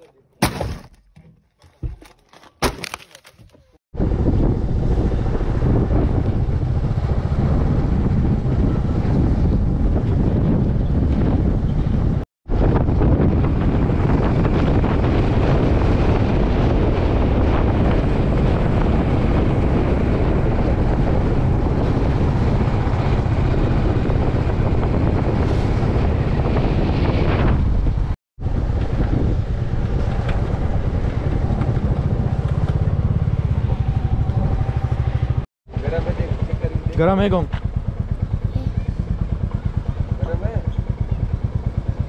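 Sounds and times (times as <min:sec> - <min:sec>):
road and wind noise: 0:01.6 - 0:42.0
wind buffeting microphone: 0:04.0 - 0:42.0.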